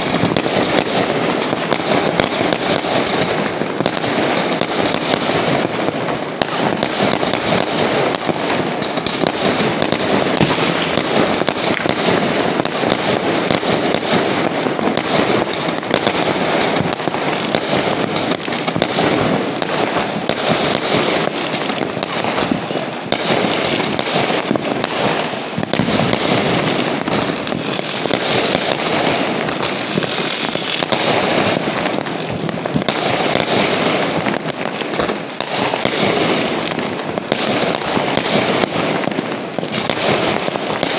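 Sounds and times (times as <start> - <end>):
fireworks crackling and popping: 0.0 - 40.9.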